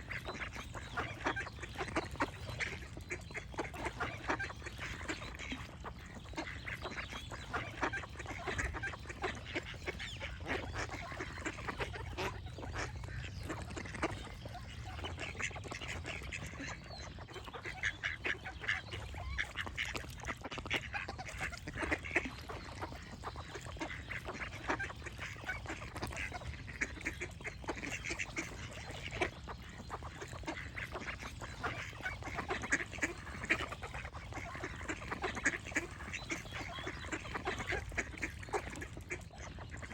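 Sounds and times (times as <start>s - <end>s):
ducks quacking: 0.0s - 39.9s.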